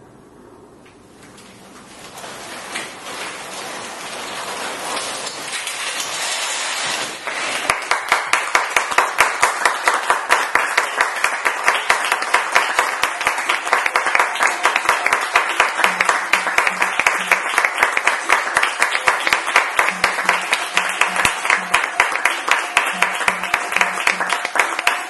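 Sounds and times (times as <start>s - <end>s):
audience applauding: 2.3s - 25.0s.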